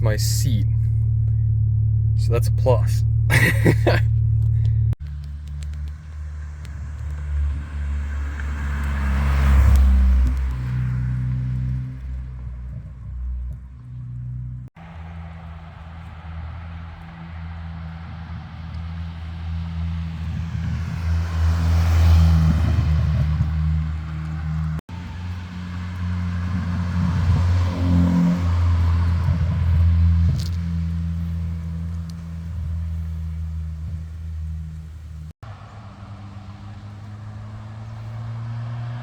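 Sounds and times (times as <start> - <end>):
car exhaust low drone: 0.0 - 39.0.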